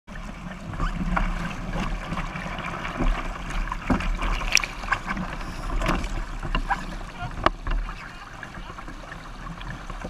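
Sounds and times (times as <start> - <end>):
water rushing along boat hull: 0.1 - 10.0.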